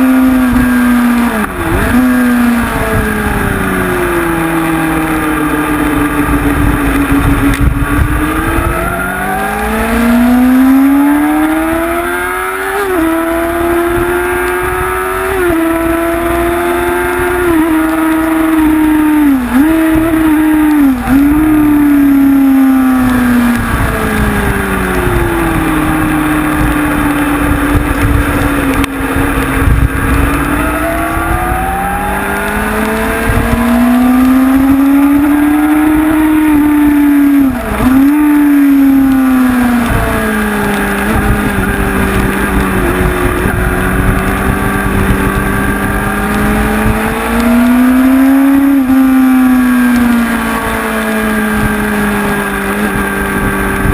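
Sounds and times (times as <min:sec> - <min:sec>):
motorcycle engine at speed: 0:00.0 - 0:53.9
wind rush: 0:00.0 - 0:53.9.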